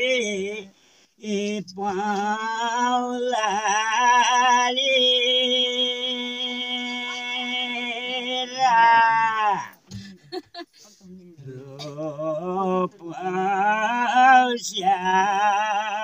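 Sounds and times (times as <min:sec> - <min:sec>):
men singing unaccompanied: 0:00.0 - 0:09.8, 0:11.4 - 0:16.0.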